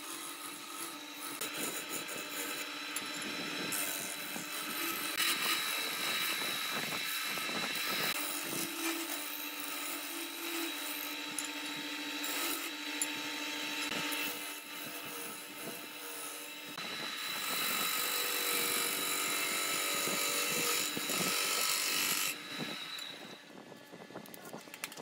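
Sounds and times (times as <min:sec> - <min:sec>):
turning tool scraping wood: 0:00.0 - 0:23.3
wood lathe humming: 0:00.0 - 0:23.6.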